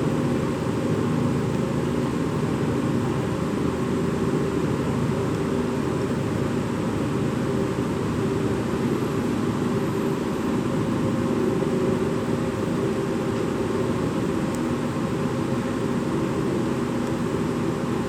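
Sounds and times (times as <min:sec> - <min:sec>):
ventilation hum and hiss: 0:00.0 - 0:18.0.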